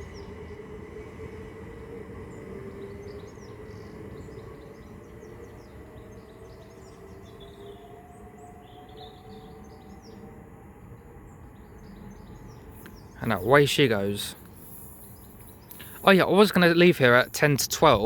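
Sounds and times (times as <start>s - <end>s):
birds chirping: 0.0s - 18.0s
train electrical hum: 0.0s - 18.0s
train whine rising in pitch: 0.0s - 18.0s.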